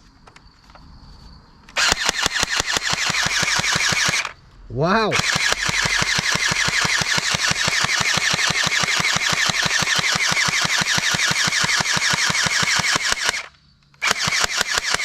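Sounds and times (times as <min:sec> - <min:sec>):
toy rifle electronic gunfire: 0:01.8 - 0:04.4, 0:05.2 - 0:15.0.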